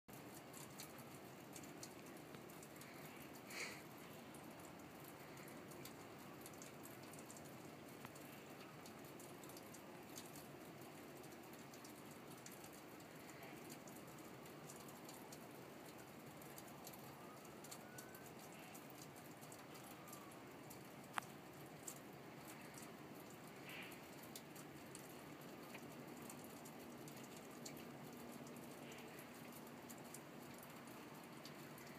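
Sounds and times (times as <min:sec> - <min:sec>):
faint background hiss: 0:00.1 - 0:31.9
light ticks: 0:00.1 - 0:31.9.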